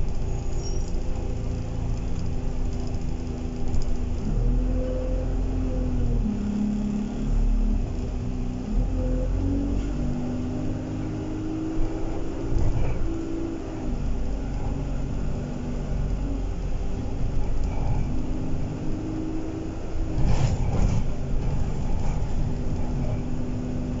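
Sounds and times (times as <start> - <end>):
bus engine rumble: 0.0 - 24.0
drivetrain whine: 0.0 - 24.0.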